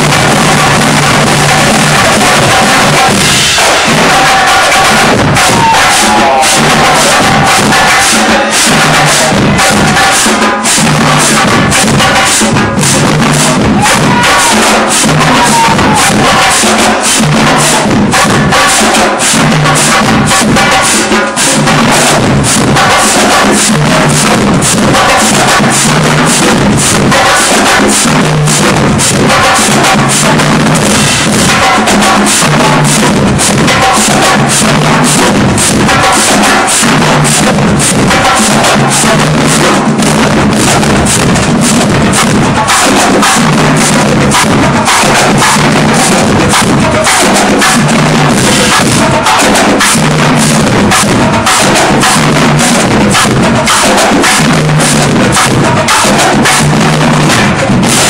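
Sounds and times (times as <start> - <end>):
bass drum notes: 0.0 - 58.0
cymbals: 0.0 - 58.0
snare drums rattling: 0.0 - 58.0.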